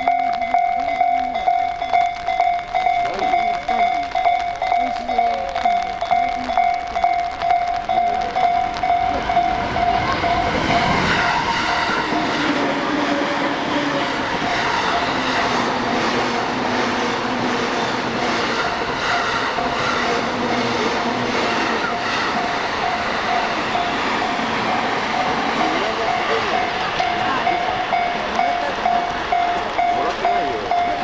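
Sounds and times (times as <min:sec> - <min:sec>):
level crossing warning bell ringing: 0:00.0 - 0:31.0
train rumbling past: 0:00.0 - 0:31.0.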